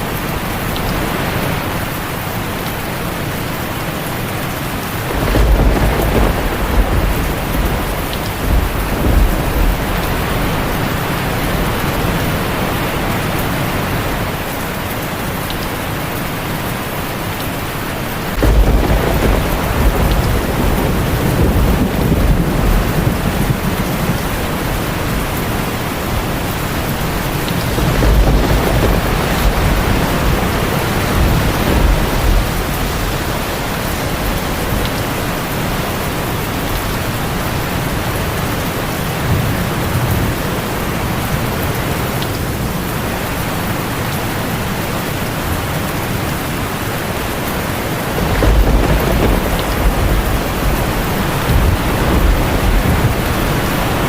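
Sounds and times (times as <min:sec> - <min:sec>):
heavy rain on a tin roof: 0:00.0 - 0:54.0
thunder rumbling: 0:03.4 - 0:14.5, 0:16.7 - 0:54.0.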